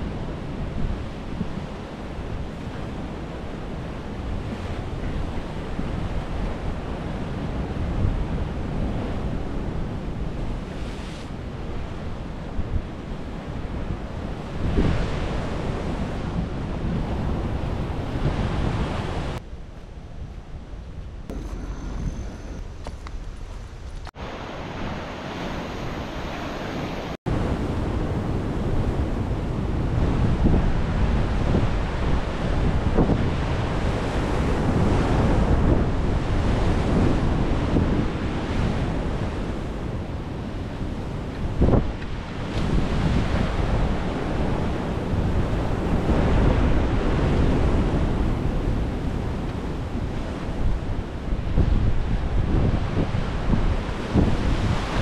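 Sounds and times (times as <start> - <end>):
ocean surf washing in: 0.0 - 19.4, 21.3 - 55.0
wind buffeting microphone: 0.0 - 55.0.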